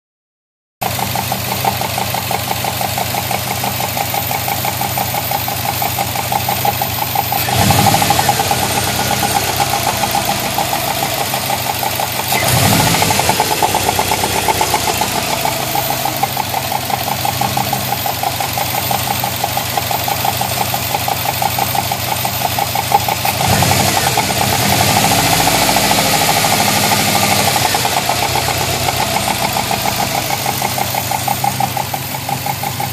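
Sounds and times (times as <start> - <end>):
car engine idling with knock: 0.8 - 32.9
engine revving: 0.9 - 32.9.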